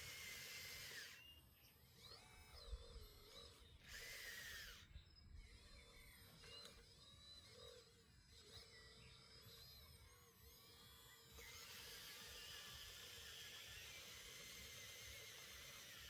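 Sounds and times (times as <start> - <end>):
electric pump motor whine: 0.0 - 16.0.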